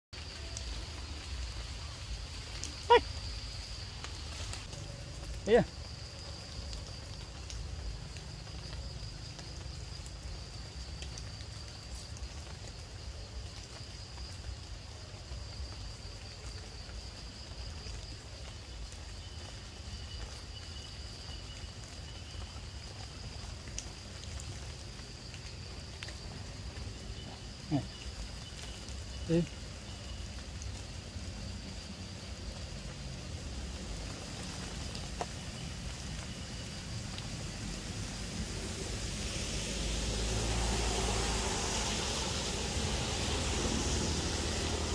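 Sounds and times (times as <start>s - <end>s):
insects droning: 0.2s - 44.9s.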